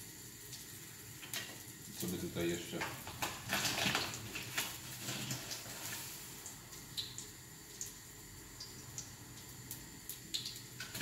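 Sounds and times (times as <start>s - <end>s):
oil crackling in a frying pan: 0.0s - 11.0s.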